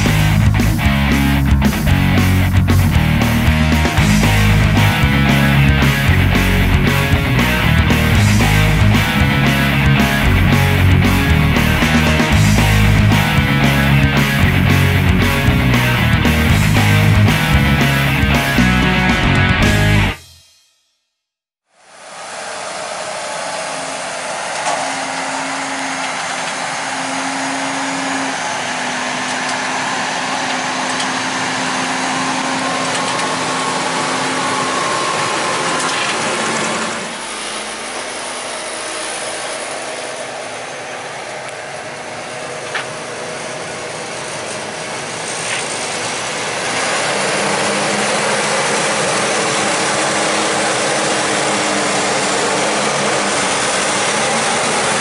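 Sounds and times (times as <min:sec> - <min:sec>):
tractor diesel engines working hard: 0:00.0 - 0:20.2, 0:22.0 - 0:55.0.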